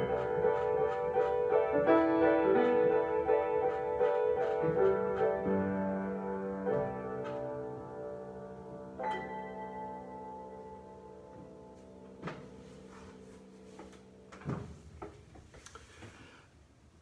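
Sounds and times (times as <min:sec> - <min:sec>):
solo piano chords: 0:00.0 - 0:14.9.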